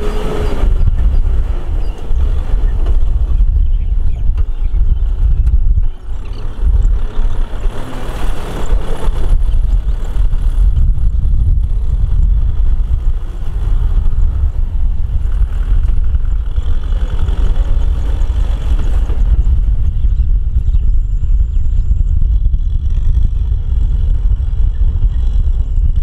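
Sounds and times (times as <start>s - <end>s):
tractor engine under load: 0.0s - 26.0s.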